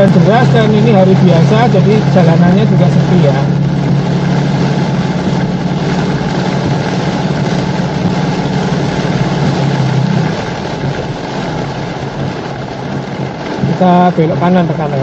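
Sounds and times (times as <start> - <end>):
diesel engine hum: 0.0 - 15.0
heavy rain on a car roof: 0.0 - 15.0.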